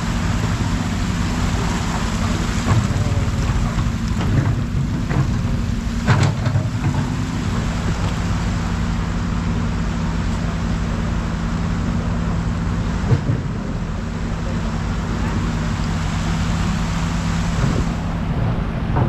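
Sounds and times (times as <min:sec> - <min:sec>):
low engine hum: 0:00.0 - 0:19.0
water rushing: 0:00.0 - 0:19.0.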